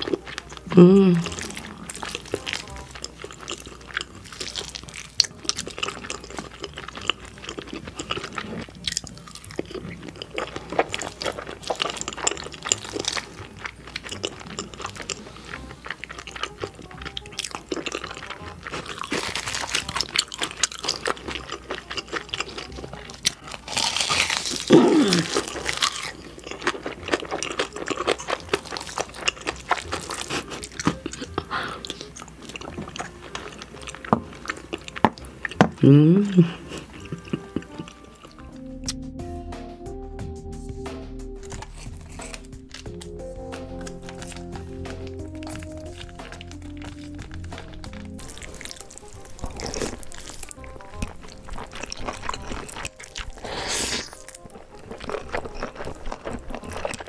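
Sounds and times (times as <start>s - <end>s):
person chewing food: 0.0s - 39.0s, 41.4s - 57.0s.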